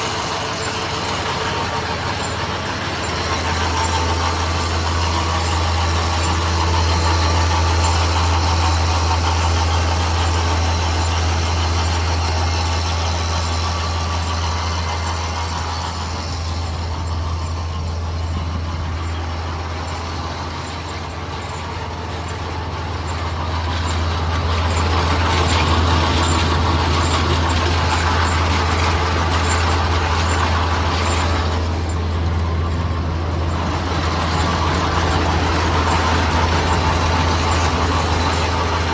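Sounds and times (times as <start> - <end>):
tractor engine and baler droning: 0.0 - 38.9.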